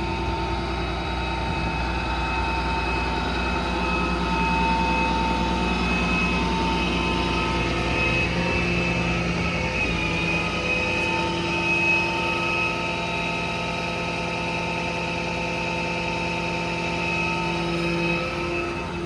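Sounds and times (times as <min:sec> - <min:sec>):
engine humming and whining: 0:00.0 - 0:19.0.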